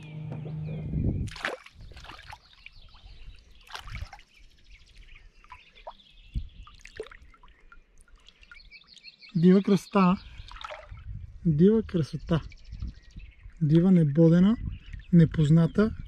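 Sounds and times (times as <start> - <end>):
birds chirping: 0.0 - 16.0
water splashing and trickling: 1.2 - 12.2, 13.4 - 16.0.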